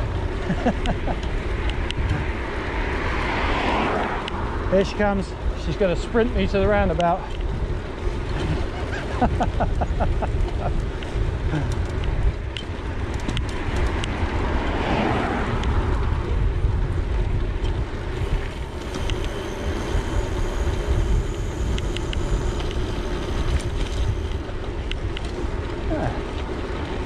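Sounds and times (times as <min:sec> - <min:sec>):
bike tyre rumble on tarmac: 0:00.0 - 0:27.0
wind buffeting microphone: 0:00.0 - 0:27.0.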